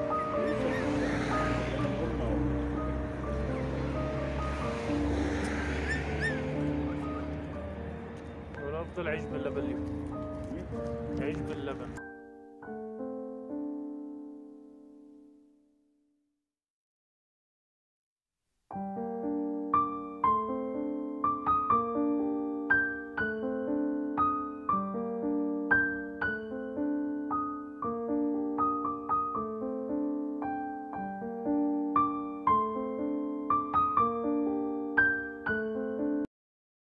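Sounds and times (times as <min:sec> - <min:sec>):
slow piano music: 0:00.0 - 0:16.0, 0:18.7 - 0:36.3.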